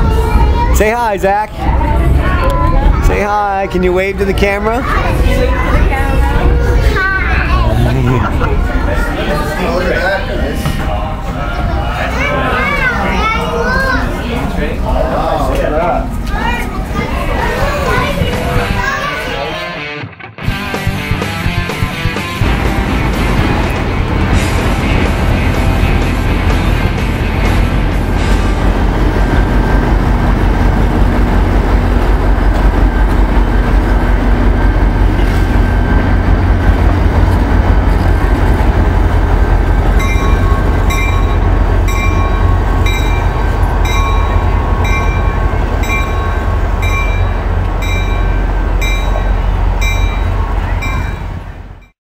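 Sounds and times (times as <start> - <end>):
train rumbling: 0.0 - 19.8, 20.4 - 52.0.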